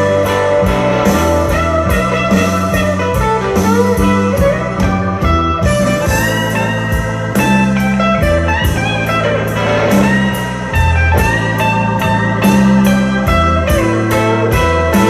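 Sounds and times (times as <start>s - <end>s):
slide guitar: 0.0s - 15.0s
steady drum beat: 0.0s - 15.0s
sustained bass notes: 0.0s - 15.0s.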